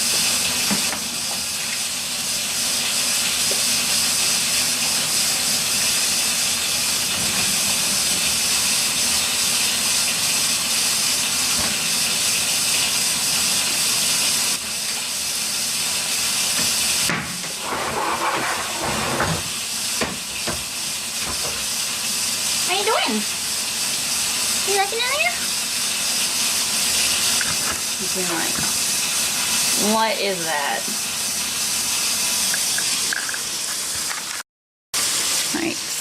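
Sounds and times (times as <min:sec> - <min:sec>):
water filling washing machine: 0:00.0 - 0:34.4, 0:35.0 - 0:36.0.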